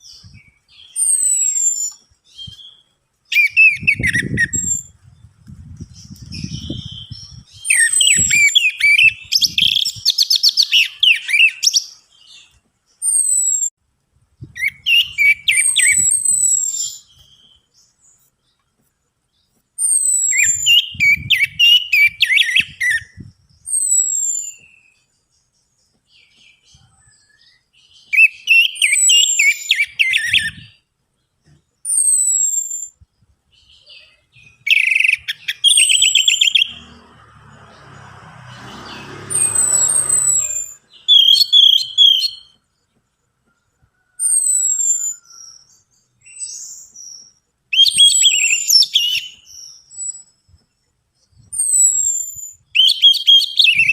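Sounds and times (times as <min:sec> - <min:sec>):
thrush singing whistles and trills: 0:00.0 - 0:13.8, 0:14.4 - 0:18.4, 0:19.4 - 0:30.9, 0:31.8 - 0:42.8, 0:43.8 - 0:53.9.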